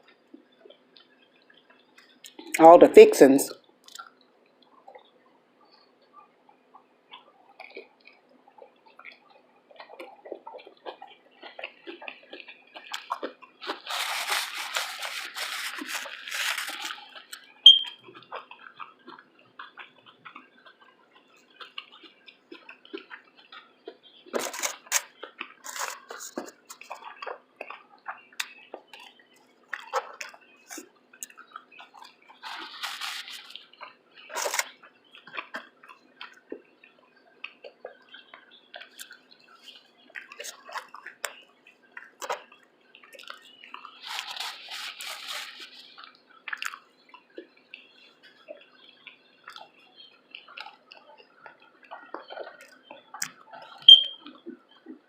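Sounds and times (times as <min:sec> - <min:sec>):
chewing and wet smacking: 0:00.0 - 0:02.6, 0:03.5 - 0:55.0
crackles of food: 0:00.0 - 0:02.6, 0:03.5 - 0:55.0.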